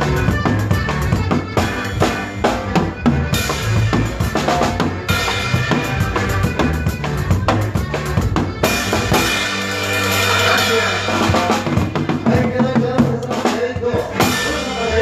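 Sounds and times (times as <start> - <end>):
band playing folk music: 0.0 - 15.0
bass line: 0.0 - 15.0
drum kit beat: 0.0 - 15.0.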